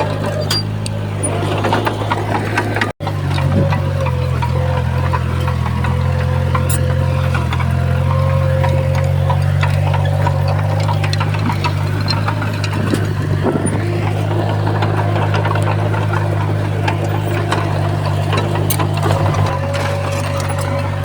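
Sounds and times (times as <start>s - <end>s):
bulldozer diesel engine running: 0.0s - 21.0s
clicks and clanks: 0.0s - 21.0s.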